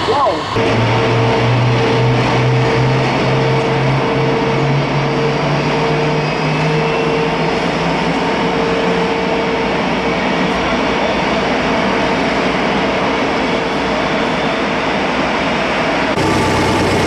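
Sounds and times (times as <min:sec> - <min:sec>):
jet engines idling: 0:00.0 - 0:17.0.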